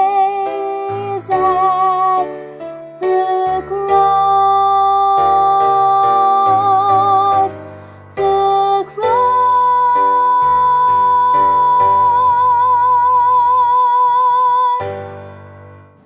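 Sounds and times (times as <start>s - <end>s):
woman singing with vibrato: 0.0s - 2.4s, 3.0s - 15.3s.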